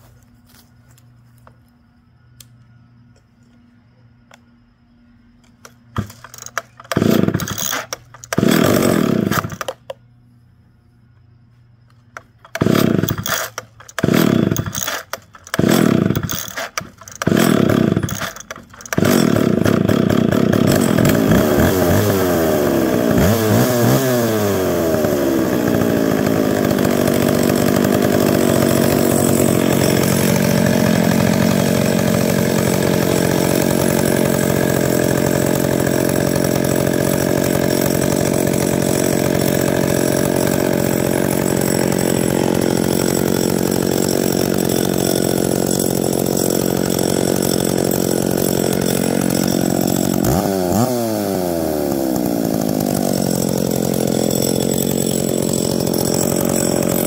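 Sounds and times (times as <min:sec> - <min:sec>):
chainsaw engine firing and running: 0:05.5 - 0:10.1, 0:11.9 - 0:57.0.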